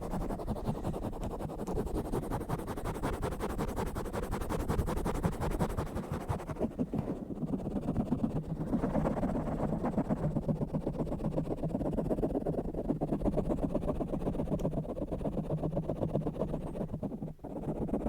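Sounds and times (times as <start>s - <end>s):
fingers scratching on microphone: 0.0s - 18.0s.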